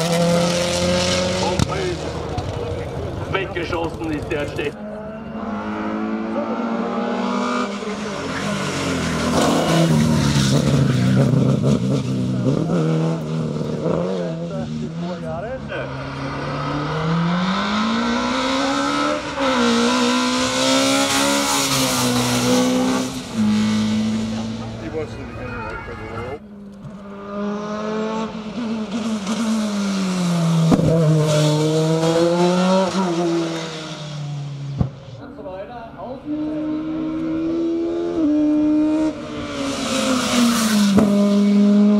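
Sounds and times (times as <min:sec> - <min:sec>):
car engine at high revs: 0:00.0 - 0:25.3, 0:26.6 - 0:35.2, 0:36.1 - 0:41.9.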